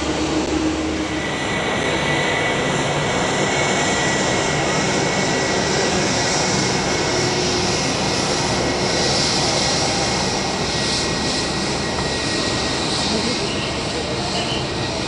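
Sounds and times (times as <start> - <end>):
jet engine whine: 0.0 - 15.0
jet engines rushing: 0.0 - 15.0.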